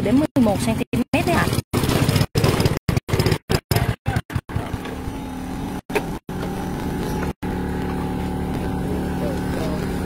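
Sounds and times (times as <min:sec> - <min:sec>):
small motorcycle engine idling: 0:00.0 - 0:10.0.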